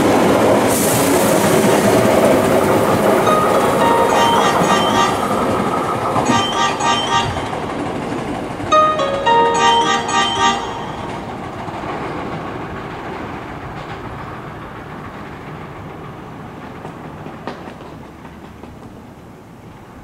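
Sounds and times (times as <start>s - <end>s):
electric train rumbling past: 0.0s - 20.0s
rail clicks: 0.0s - 20.0s.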